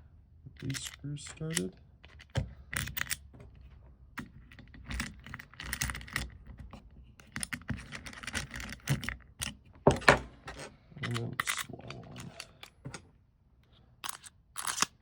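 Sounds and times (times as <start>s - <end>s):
metal screws clicking and rattling: 0.6s - 3.4s, 4.2s - 6.6s, 7.2s - 13.0s, 14.0s - 15.0s.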